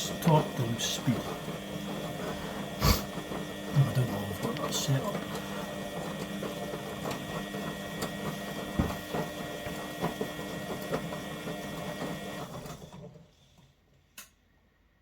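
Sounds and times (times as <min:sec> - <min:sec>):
washing machine motor whine: 0:00.0 - 0:13.8.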